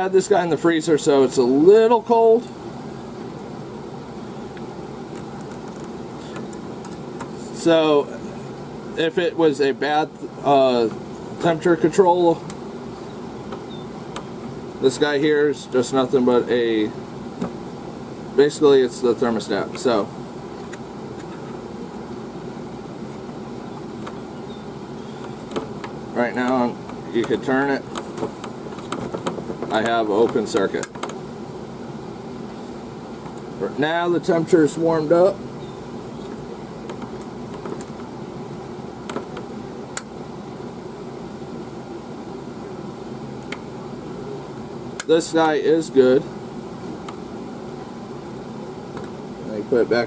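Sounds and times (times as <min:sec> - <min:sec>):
low machine-like background noise: 0:00.0 - 0:50.0.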